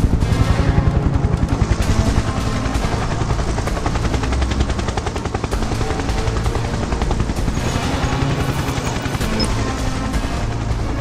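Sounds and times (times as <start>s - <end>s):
action music: 0.0s - 11.0s
helicopter rotor blades chopping: 0.8s - 11.0s.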